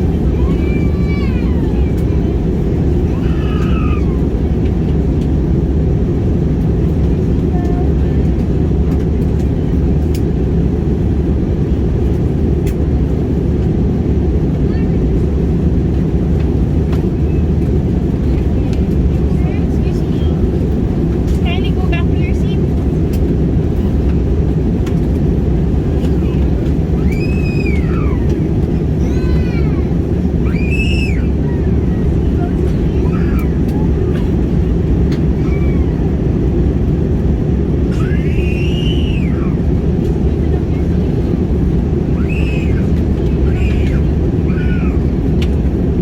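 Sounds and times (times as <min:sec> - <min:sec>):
airliner cabin roar: 0:00.0 - 0:46.0.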